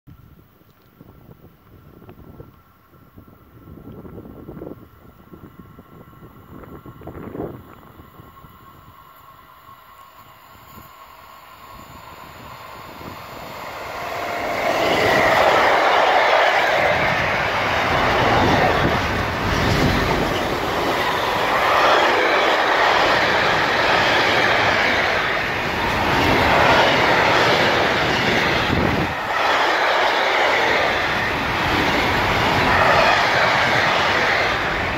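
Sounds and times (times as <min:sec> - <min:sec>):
freight train passing: 0:02.8 - 0:34.9
train wheels rolling on rails: 0:03.8 - 0:34.9.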